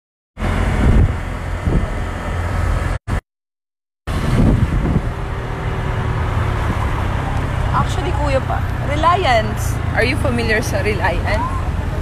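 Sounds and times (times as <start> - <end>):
traffic noise: 0.4 - 3.0, 4.1 - 12.0
wind rushing over microphone: 0.4 - 3.0, 4.1 - 12.0.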